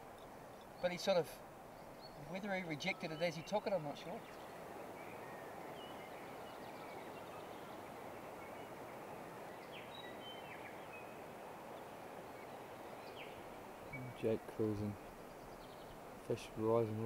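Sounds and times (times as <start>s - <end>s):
faint bird chirps: 0.0s - 17.0s
flowing river water: 0.0s - 17.0s.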